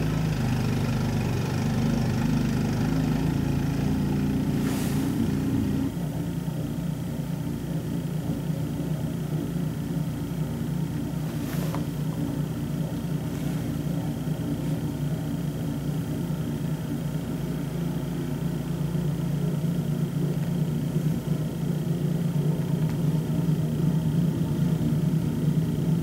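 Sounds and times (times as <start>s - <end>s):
muffled snow blower engine: 0.0s - 26.0s.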